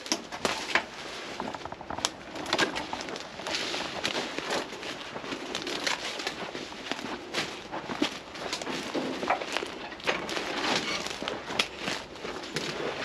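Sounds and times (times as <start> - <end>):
bramble canes snapping: 0.0 - 13.0
brush and leaves rustling: 0.0 - 13.0.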